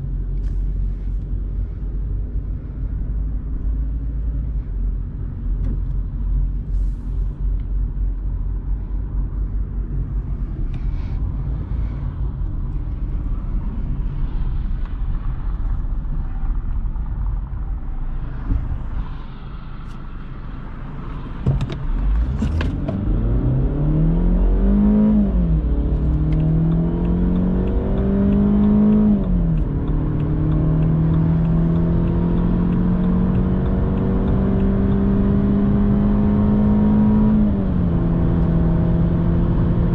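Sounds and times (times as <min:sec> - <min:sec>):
car engine accelerating: 0:00.0 - 0:39.9
road rumble: 0:00.0 - 0:39.9.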